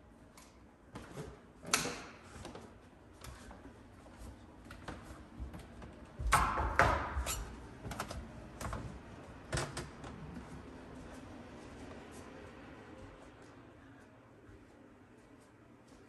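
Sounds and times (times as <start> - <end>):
footsteps going down stairs: 0.8 - 16.0.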